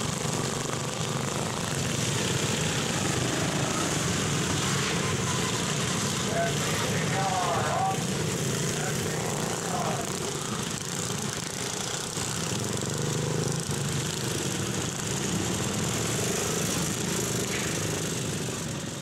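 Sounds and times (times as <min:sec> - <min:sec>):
small engines droning: 0:00.0 - 0:19.0.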